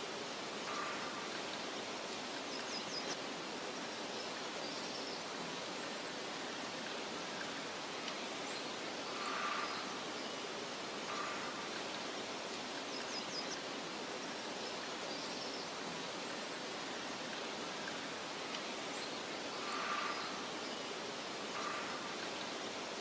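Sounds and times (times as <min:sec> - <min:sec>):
soft outdoor hiss: 0:00.0 - 0:23.0.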